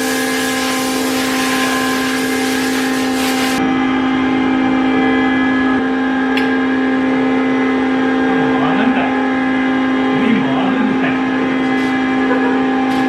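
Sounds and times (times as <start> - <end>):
woodworking machine humming: 0.0 - 13.0.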